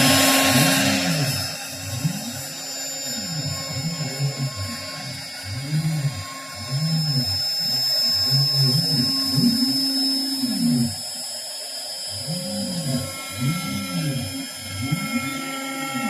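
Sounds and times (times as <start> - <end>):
motor tone rising and falling: 0.0 - 16.0
router high whine: 0.0 - 16.0.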